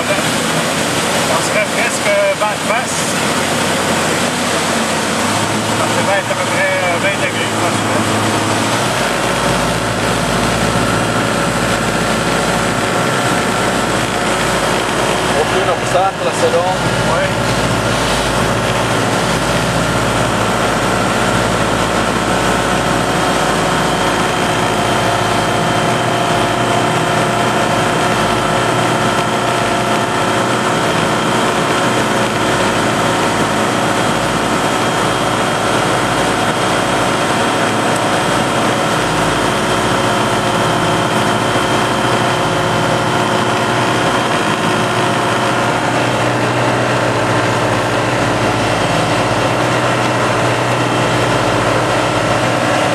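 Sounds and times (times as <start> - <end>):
aircraft engine and propeller drone: 0.0 - 52.9
rushing air noise: 2.9 - 52.9.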